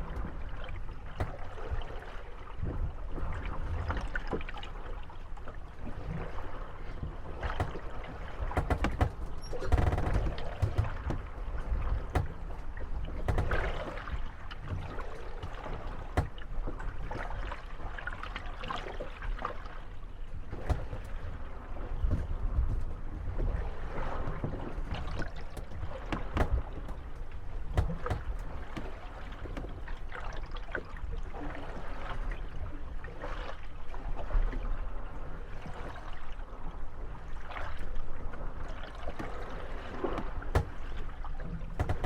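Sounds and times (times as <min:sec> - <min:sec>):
wooden boats creaking and knocking: 0:00.0 - 0:32.6, 0:39.0 - 0:42.0
water lapping: 0:00.0 - 0:42.0.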